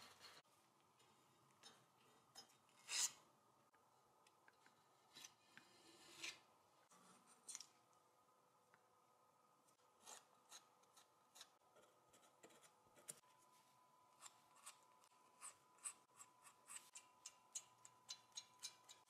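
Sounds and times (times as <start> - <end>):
faint high hum: 0.0 - 19.0.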